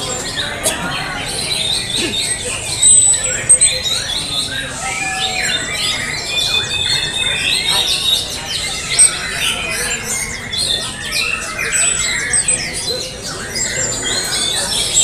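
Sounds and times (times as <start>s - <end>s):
songbirds singing whistles and trills: 0.0s - 15.0s.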